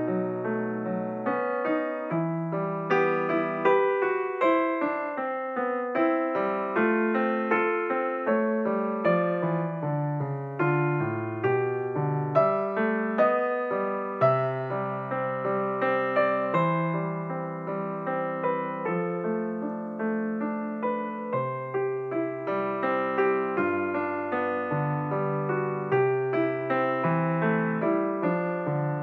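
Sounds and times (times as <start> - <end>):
solo piano minuet: 0.0 - 29.0.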